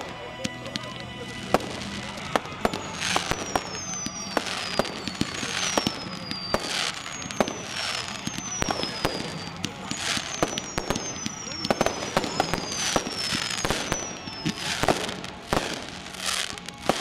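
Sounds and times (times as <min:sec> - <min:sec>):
fireworks pops and bangs: 0:00.0 - 0:17.0
fireworks whistling: 0:00.0 - 0:17.0
fireworks whooshing: 0:00.0 - 0:17.0.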